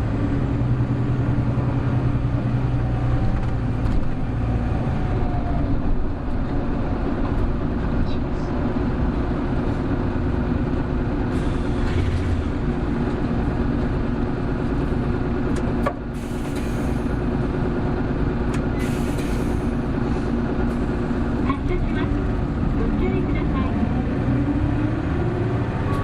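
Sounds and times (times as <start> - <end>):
bus engine accelerating: 0.0 - 26.0.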